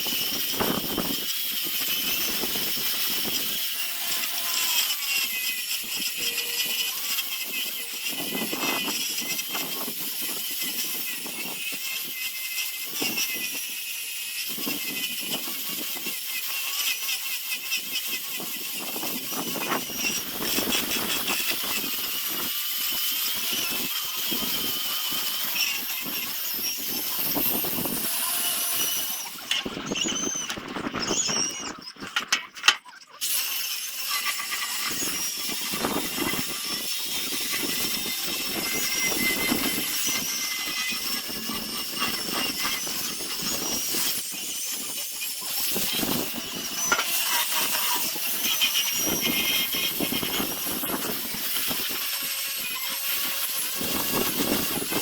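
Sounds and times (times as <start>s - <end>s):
power sander grinding wood: 0.0s - 55.0s.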